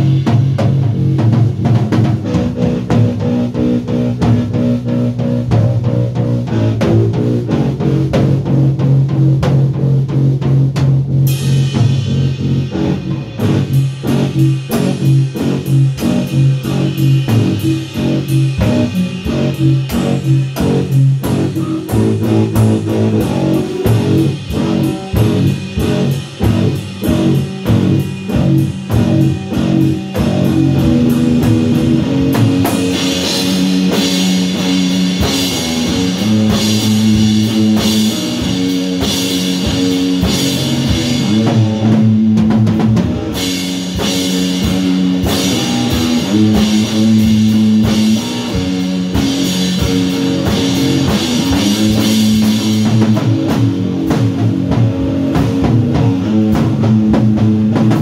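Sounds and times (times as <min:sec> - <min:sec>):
drum kit beat: 0:00.0 - 0:58.0
electric guitar: 0:00.0 - 0:58.0.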